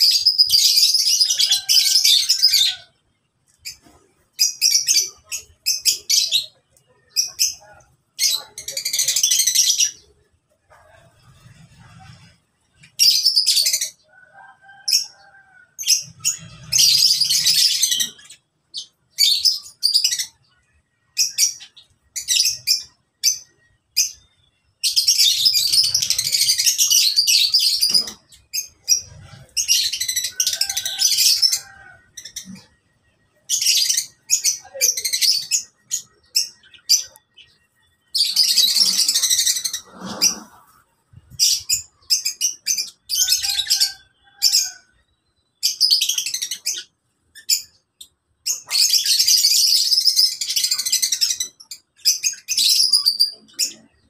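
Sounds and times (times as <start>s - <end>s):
lovebirds chattering: 0.0s - 14.1s, 15.8s - 44.9s.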